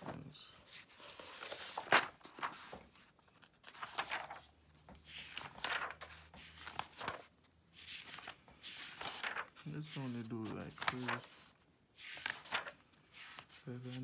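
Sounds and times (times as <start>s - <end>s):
pages flipping: 0.0s - 14.0s.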